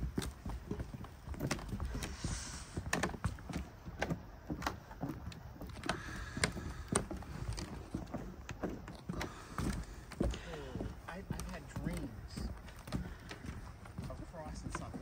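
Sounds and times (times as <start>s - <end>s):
floorboards creaking: 0.0s - 15.0s
footsteps on wooden floorboards: 0.0s - 15.0s.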